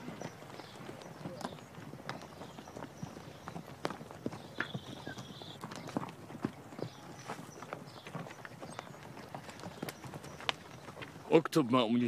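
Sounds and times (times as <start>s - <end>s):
horses hooves clopping: 0.0s - 12.0s.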